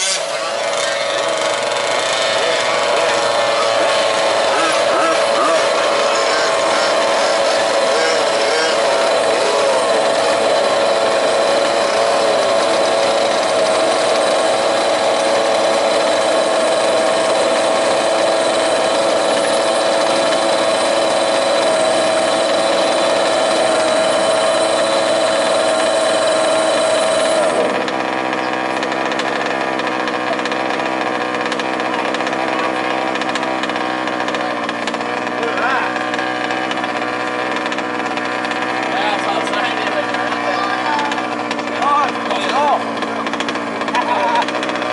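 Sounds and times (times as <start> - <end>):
high-pitched engine buzz: 0.0 - 44.9
small petrol engines running: 0.0 - 44.9.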